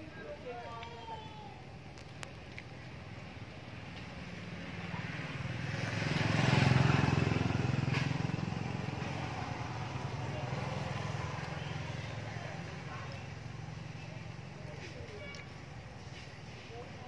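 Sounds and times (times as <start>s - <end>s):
road noise: 0.0s - 17.0s
vehicle engine rumble passing: 1.7s - 17.0s.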